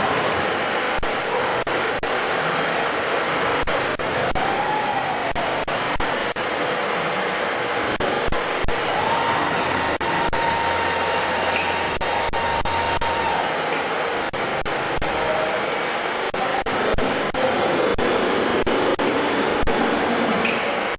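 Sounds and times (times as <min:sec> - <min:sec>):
faint machine whine: 0:00.0 - 0:20.9
stone saw machine running: 0:00.0 - 0:20.9.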